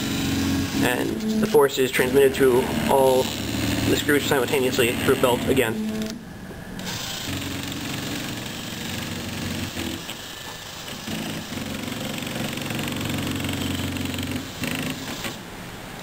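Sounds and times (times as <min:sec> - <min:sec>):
stepper motors whirring: 0:00.0 - 0:06.2, 0:06.8 - 0:15.4.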